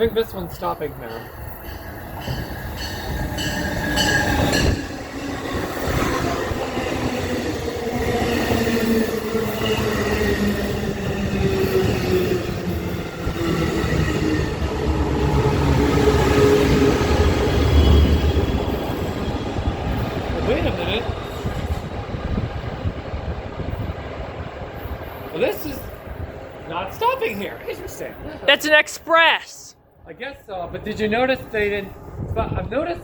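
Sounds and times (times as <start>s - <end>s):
train wheels rumbling on rail: 0.0s - 28.2s.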